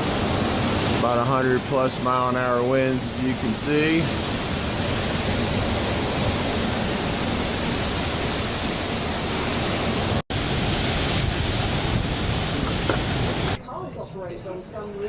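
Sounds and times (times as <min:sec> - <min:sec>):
sea: 0:00.0 - 0:13.6
strong wind rushing over microphone: 0:00.0 - 0:13.6.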